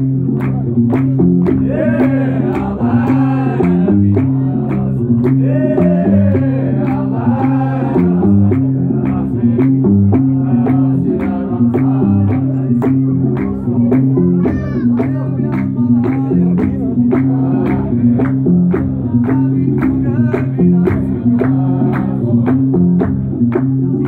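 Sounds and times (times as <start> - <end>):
plucked bass lute riff: 0.0 - 24.0
rhythmic handclaps: 0.0 - 24.0
men singing in chorus: 1.5 - 14.2, 15.2 - 23.2.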